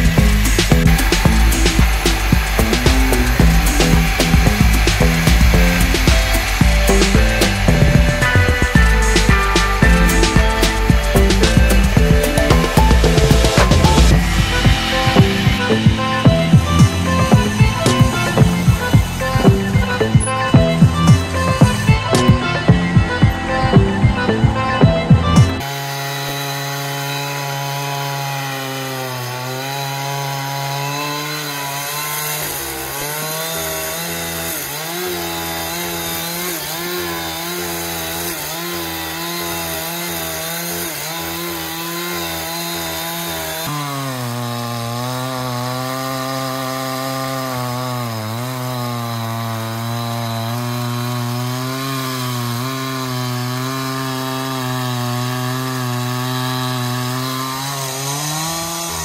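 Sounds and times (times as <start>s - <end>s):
power saw cutting wood: 0.0s - 59.0s.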